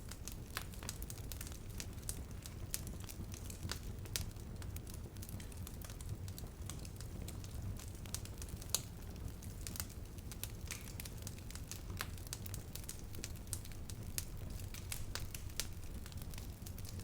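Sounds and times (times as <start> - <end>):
low rush of flames: 0.0 - 17.0
wood crackling and popping: 0.0 - 17.0.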